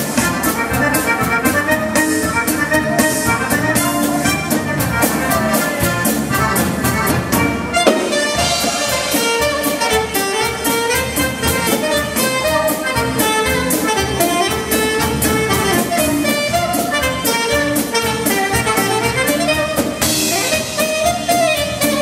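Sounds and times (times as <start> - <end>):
drum kit steady beat: 0.0 - 22.0
saxophone melody: 0.0 - 22.0.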